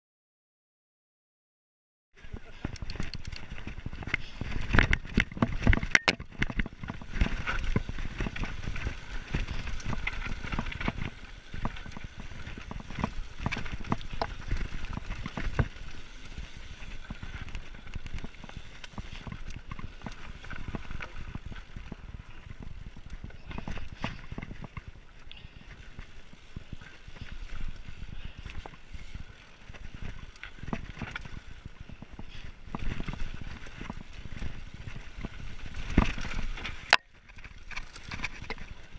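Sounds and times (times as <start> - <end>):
bike tyres crunching over gravel: 2.2 - 38.9
bike rattling and knocking: 2.3 - 38.9.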